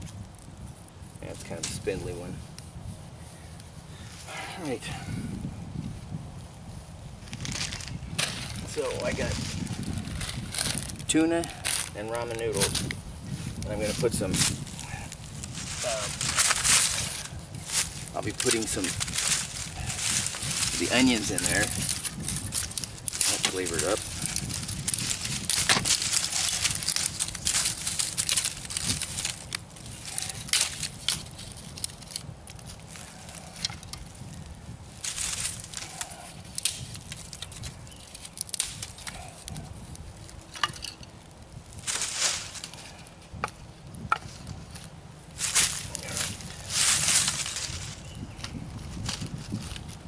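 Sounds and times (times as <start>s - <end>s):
campfire crackling: 0.0s - 50.0s
rustling in dead leaves: 0.0s - 50.0s
dry sticks snapping: 7.2s - 50.0s.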